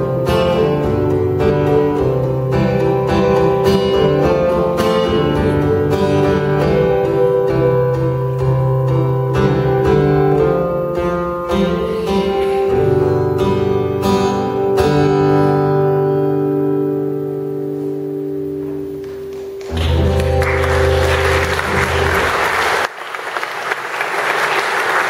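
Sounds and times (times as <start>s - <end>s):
acoustic guitar chords: 0.0s - 22.8s.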